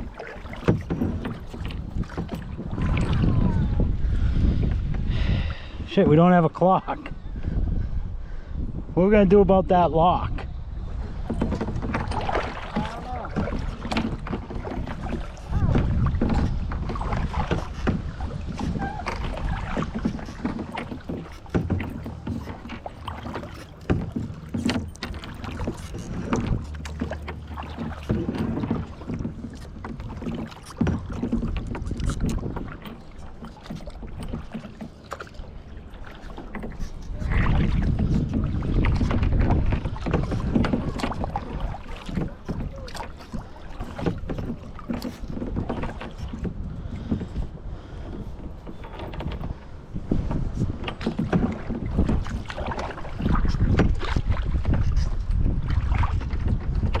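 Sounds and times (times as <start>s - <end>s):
paddle splashing in water: 0.0s - 7.8s, 10.2s - 57.0s
wind rumbling on microphone: 0.0s - 57.0s.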